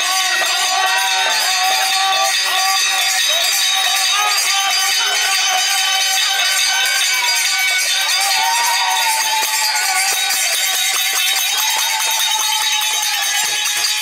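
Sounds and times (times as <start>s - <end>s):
hand cymbals clashing: 0.0s - 14.0s.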